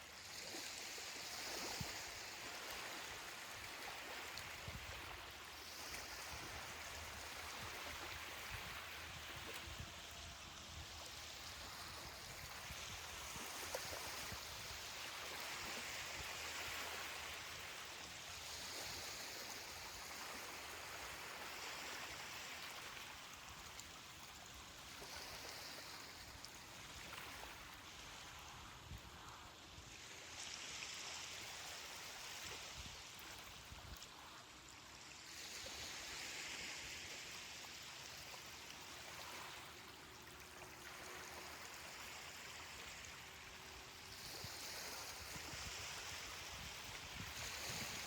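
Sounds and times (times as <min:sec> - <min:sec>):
ocean surf washing on beach: 0:00.0 - 0:48.0.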